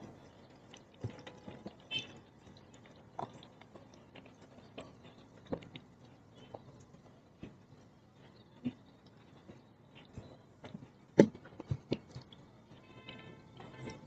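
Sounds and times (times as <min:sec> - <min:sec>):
water dripping into plastic bottle: 0:00.0 - 0:14.0.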